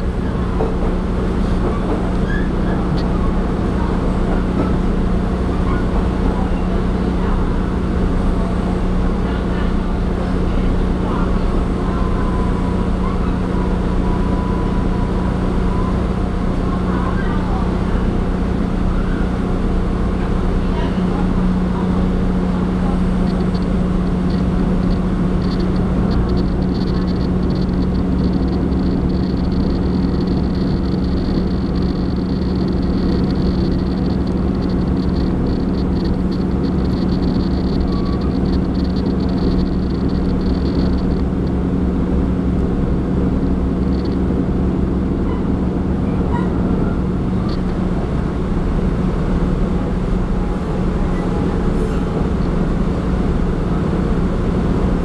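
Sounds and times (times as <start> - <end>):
diesel railcar engine drone: 0.0 - 55.0
train running noise: 0.0 - 55.0.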